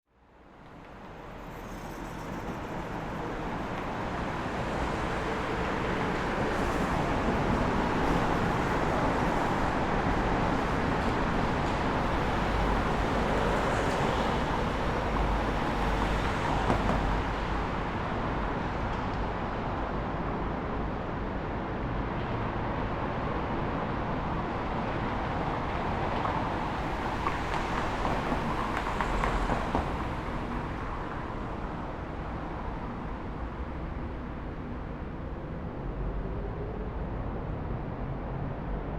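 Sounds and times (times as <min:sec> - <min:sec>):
road traffic rumble: 0:04.1 - 0:38.9.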